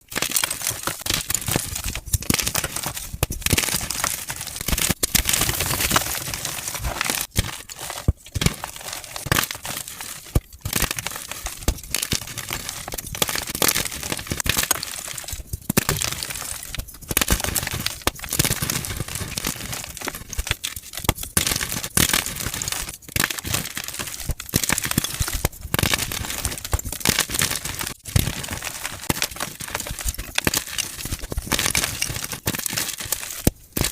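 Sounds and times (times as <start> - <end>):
chalk blocks crunching and crackling: 0.0 - 33.9.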